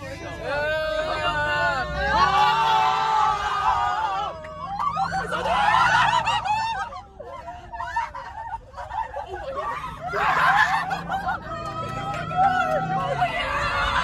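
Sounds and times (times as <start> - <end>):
van engine and road rumble: 0.0 - 14.0
young people laughing and shrieking: 0.0 - 14.0.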